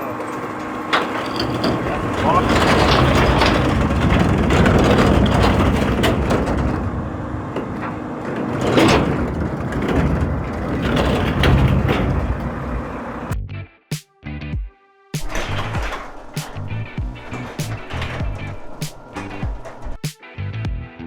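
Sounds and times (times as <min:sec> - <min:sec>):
clanking and sharp knocks: 0:00.0 - 0:13.4, 0:15.2 - 0:20.1
garbage truck engine running: 0:00.0 - 0:13.4, 0:15.2 - 0:20.1.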